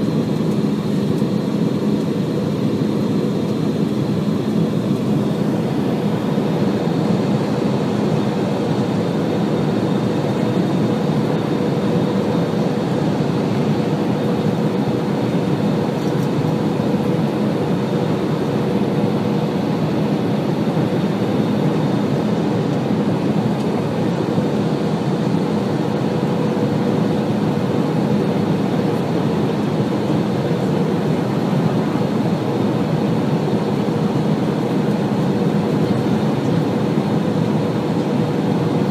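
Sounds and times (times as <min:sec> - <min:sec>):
airliner engines rumbling: 0:00.0 - 0:38.9
constant low hum: 0:00.0 - 0:38.9.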